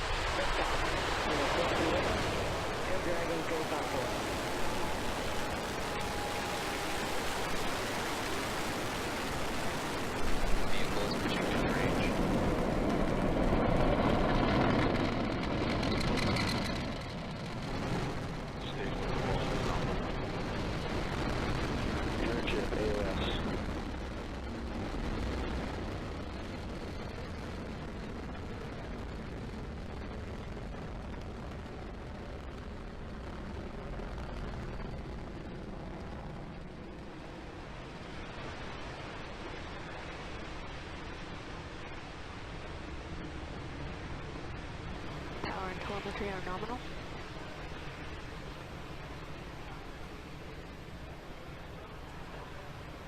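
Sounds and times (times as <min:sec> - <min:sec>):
rocket engines rumbling: 0:00.0 - 0:53.0.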